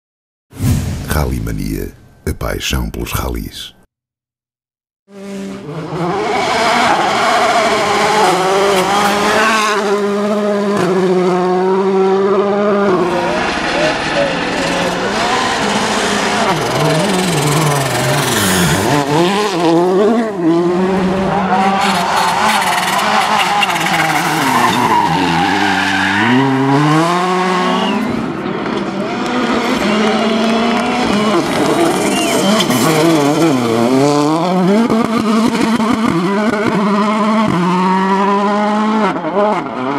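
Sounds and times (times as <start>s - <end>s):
rally car engine revving: 5.1s - 39.9s.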